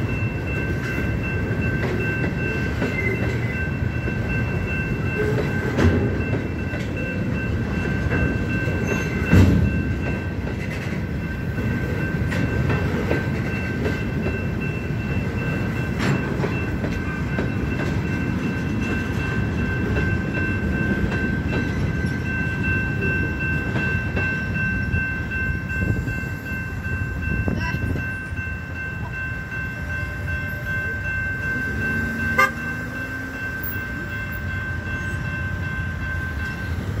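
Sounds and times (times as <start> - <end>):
crossing warning bell ringing: 0.0 - 37.0
freight train rumbling: 0.0 - 37.0.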